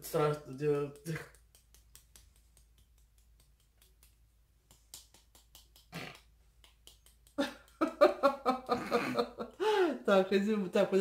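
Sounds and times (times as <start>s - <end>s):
facial tapping clicks: 0.3s - 9.8s.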